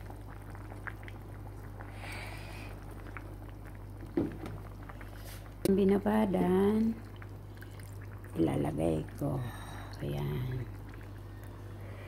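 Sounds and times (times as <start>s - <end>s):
food bubbling in a pan: 0.0s - 12.0s
steady low hum: 0.0s - 12.0s.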